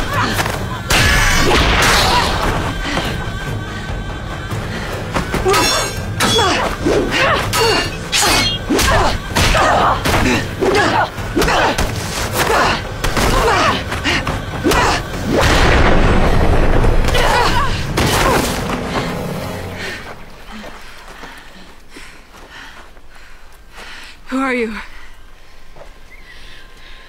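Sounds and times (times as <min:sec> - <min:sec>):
dramatic score music: 0:00.0 - 0:27.0.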